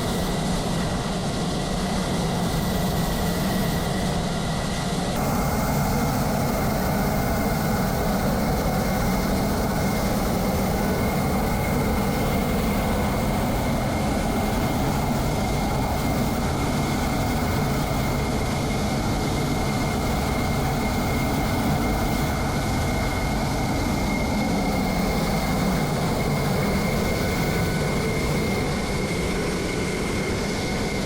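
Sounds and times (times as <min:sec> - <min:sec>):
high engine whine: 0:00.0 - 0:31.0
jet engine rushing: 0:02.6 - 0:31.0.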